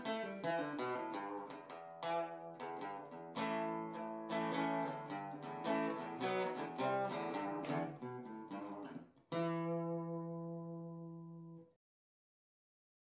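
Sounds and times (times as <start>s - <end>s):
acoustic guitar melody: 0.0s - 11.7s.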